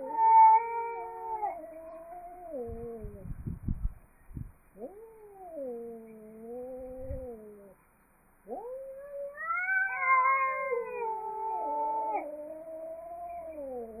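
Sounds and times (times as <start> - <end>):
cats yowling: 0.0 - 3.2, 4.8 - 7.8, 8.5 - 14.0.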